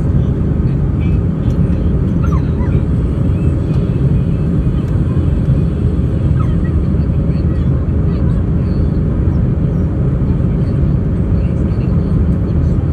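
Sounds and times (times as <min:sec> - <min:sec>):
airplane cabin rumble: 0:00.0 - 0:12.9.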